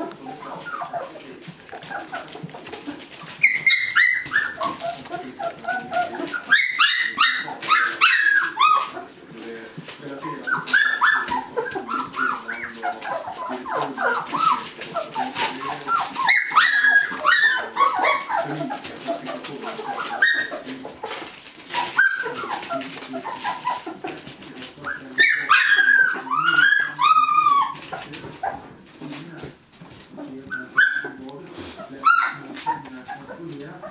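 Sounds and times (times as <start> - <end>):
puppies whimpering and yipping: 0.0 - 33.9.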